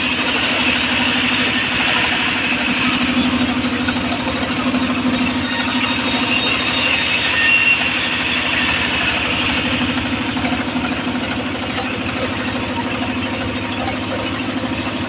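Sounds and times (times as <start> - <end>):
high whine: 0.0 - 15.0
sawmill engine running: 0.0 - 15.0.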